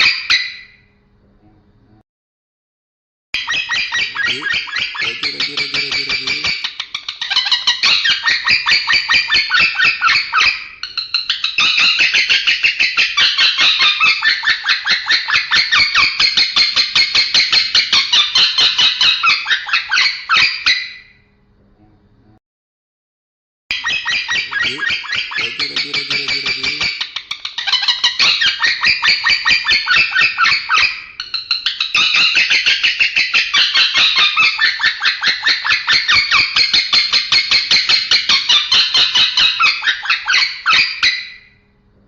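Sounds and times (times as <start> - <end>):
lovebird chattering song: 3.4 - 20.8, 23.7 - 41.4.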